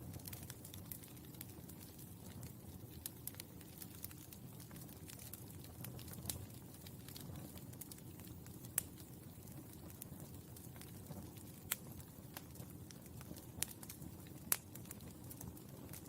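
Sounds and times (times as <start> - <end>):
charcoal crackling and popping: 0.0 - 16.0
low rumble of fire: 0.0 - 16.0.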